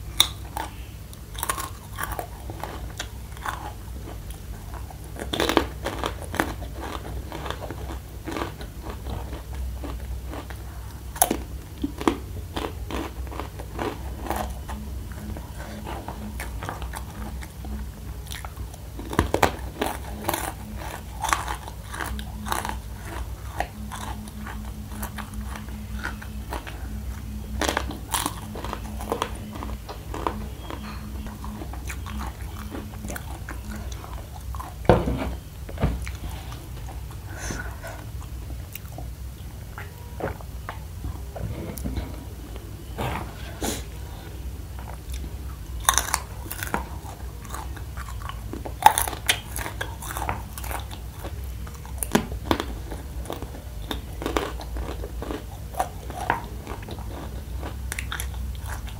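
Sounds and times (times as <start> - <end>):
crunching and chewing snack: 0.0 - 40.8, 44.8 - 58.9
low steady hum: 0.0 - 58.9.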